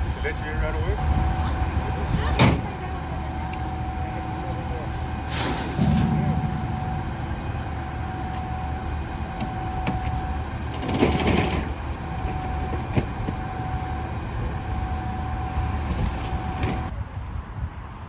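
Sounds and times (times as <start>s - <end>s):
garbage truck engine rumble: 1.0s - 17.0s.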